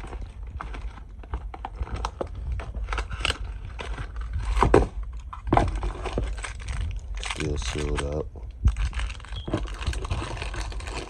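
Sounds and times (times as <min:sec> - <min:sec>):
packaging rustling and clicking: 0:00.0 - 0:11.0.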